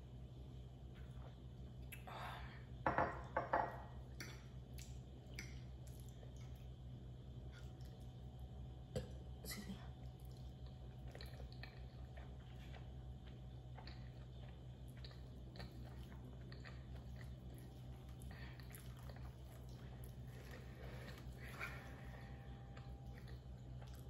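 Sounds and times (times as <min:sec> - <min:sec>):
low steady hum: 0:00.0 - 0:24.0
close-up chewing: 0:04.7 - 0:24.0.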